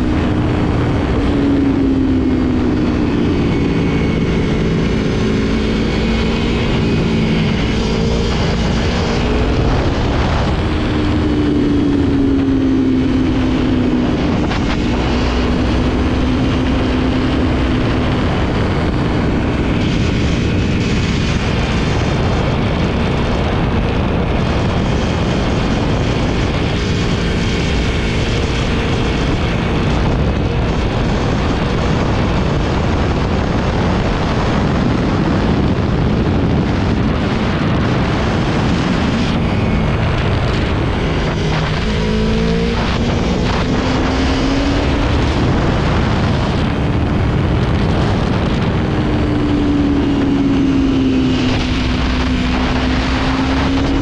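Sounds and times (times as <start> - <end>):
motorcycle engine running: 0.0 - 54.0
road noise: 0.0 - 54.0
wind on microphone: 0.0 - 54.0.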